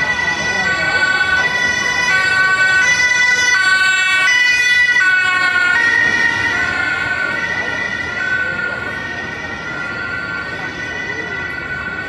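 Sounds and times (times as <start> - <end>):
two-tone siren: 0.0 - 12.0.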